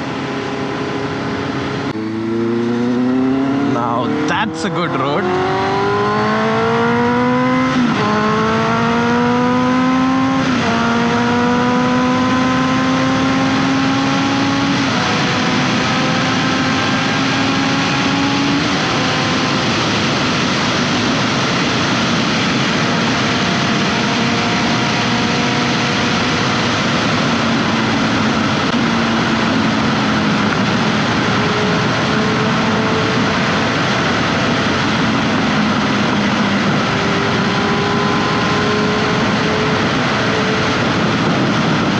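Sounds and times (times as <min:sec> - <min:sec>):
motorcycle engine accelerating: 0:00.0 - 0:41.9
wind noise: 0:00.0 - 0:41.9.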